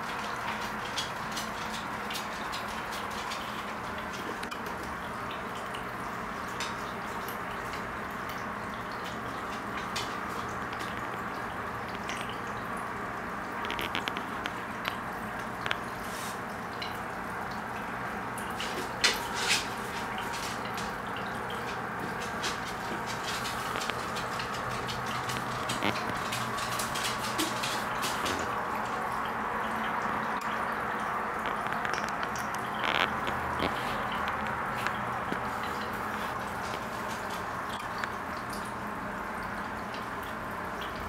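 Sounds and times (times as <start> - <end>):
small drips: 0.0 - 41.0
trickling water: 0.0 - 41.0.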